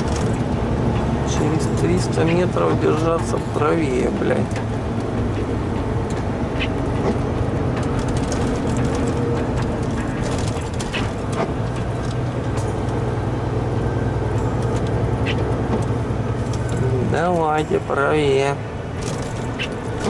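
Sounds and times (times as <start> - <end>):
constant low hum: 0.0 - 20.0
road noise: 0.0 - 20.0
truck engine running: 0.0 - 20.0.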